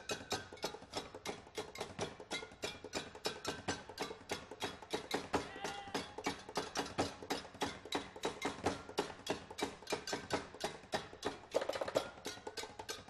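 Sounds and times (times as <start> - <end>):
percussion clicking strikes: 0.0 - 13.0.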